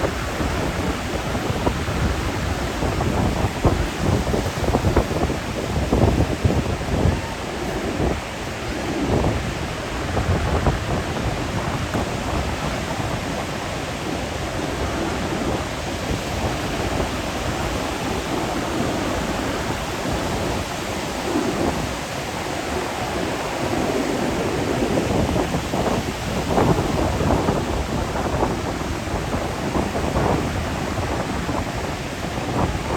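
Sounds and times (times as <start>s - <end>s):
ocean surf breaking: 0.0s - 32.9s
wind rumbling on microphone: 0.0s - 32.9s.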